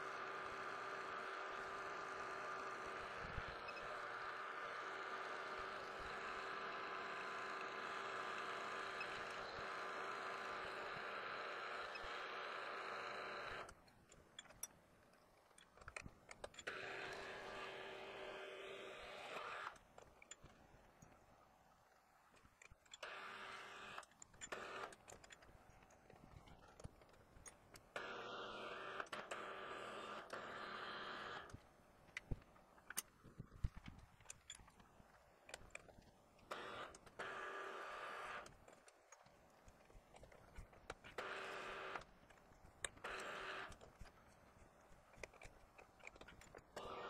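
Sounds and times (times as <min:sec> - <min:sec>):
faint clicks: 0:05.1 - 0:17.6, 0:19.2 - 0:30.6, 0:31.2 - 0:47.0.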